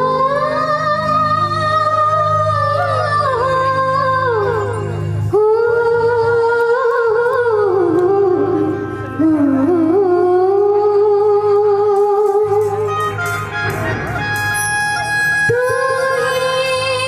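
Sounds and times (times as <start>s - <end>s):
woman singing into a microphone: 0.0s - 13.2s, 15.4s - 17.0s
instrumental accompaniment: 0.0s - 17.0s.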